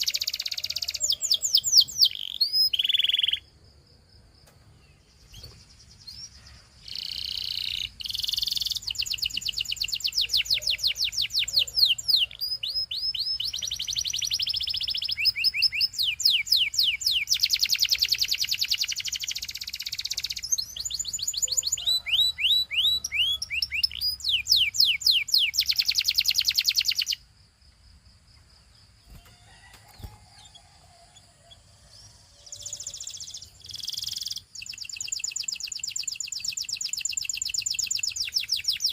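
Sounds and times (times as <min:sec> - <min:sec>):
canary singing trills: 0:00.0 - 0:03.6, 0:04.9 - 0:27.3, 0:28.4 - 0:38.9.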